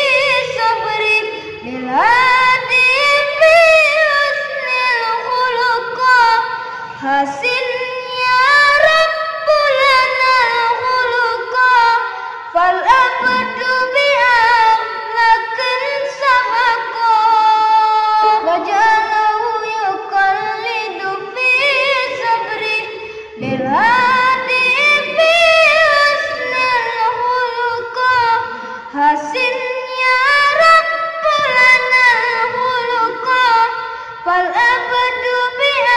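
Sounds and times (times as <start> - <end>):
boy singing devotional song: 0.0 - 35.9.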